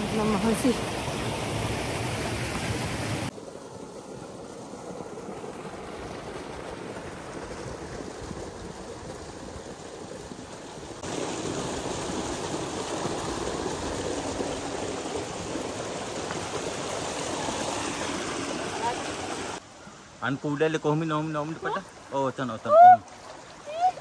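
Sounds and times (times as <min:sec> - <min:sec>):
stream running over pebbles: 0:00.0 - 0:24.0.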